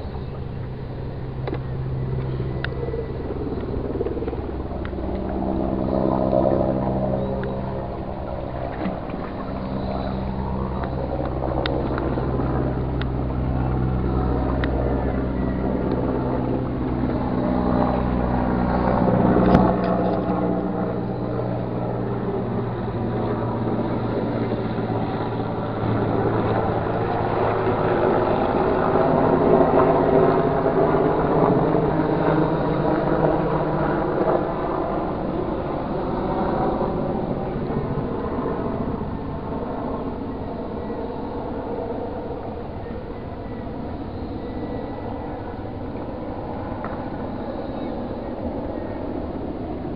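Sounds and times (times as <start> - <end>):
engine drone: 0.0 - 49.9.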